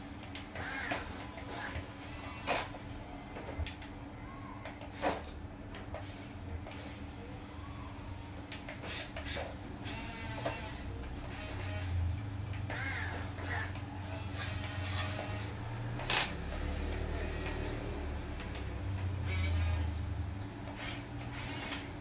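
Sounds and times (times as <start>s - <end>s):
electric gear motors whining: 0.0s - 22.0s.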